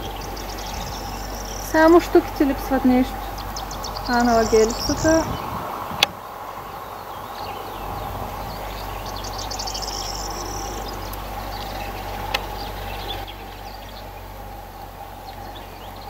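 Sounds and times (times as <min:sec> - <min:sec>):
birds chirping: 0:00.0 - 0:16.0
steady background drone: 0:00.0 - 0:16.0.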